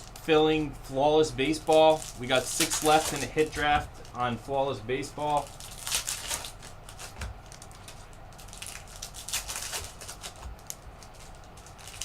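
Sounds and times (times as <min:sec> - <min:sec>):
wrappers rustling and crinkling: 0:00.0 - 0:00.7, 0:01.4 - 0:04.2, 0:05.1 - 0:12.0.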